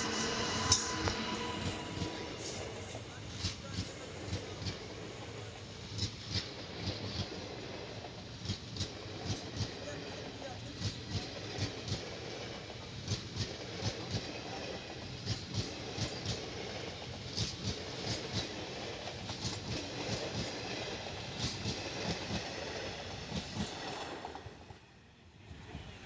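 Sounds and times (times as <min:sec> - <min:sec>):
train coaches rumbling: 0:00.0 - 0:26.0.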